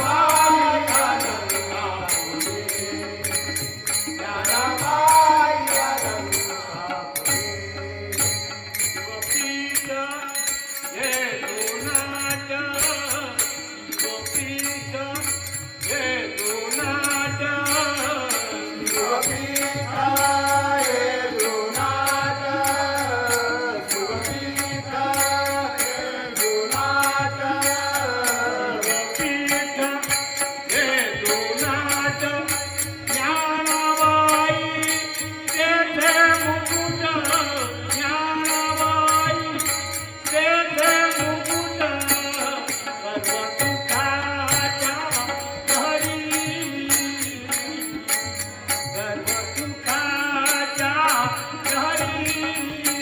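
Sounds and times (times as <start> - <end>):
devotional music: 0.0 - 53.0
rapid ticking percussion: 0.0 - 53.0.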